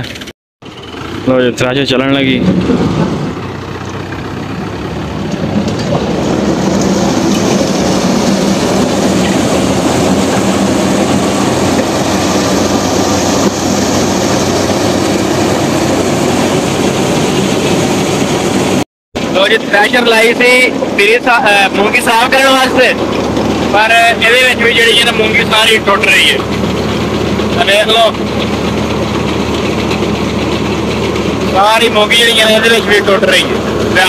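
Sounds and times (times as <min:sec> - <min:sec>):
thresher running: 0:00.0 - 0:34.0
tractor engine: 0:00.0 - 0:34.0.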